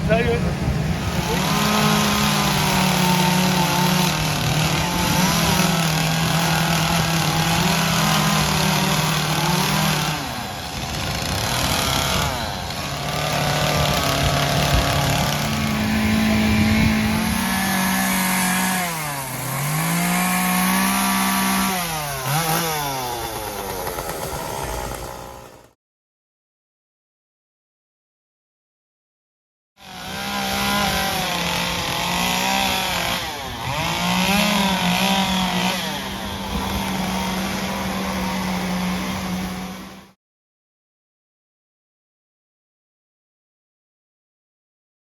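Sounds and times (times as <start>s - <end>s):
chainsaws running at high revs: 0.0s - 25.8s, 29.8s - 40.2s.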